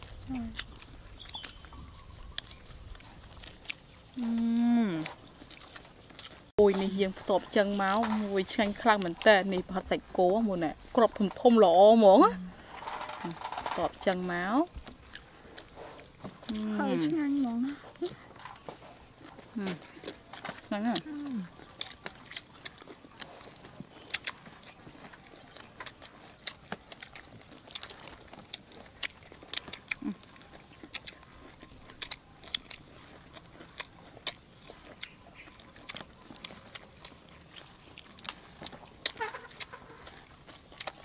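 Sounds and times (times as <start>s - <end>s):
people chewing food: 0.0s - 41.0s.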